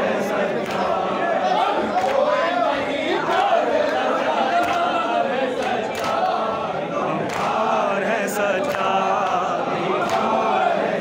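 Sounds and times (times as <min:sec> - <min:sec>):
crowd of men chanting: 0:00.0 - 0:11.0.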